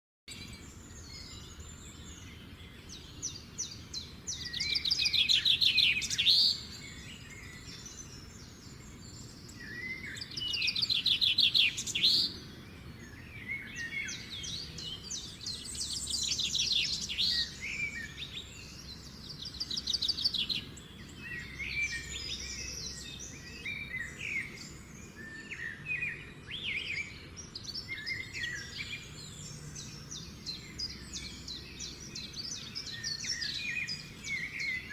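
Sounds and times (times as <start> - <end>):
birds singing: 0.3 - 34.9.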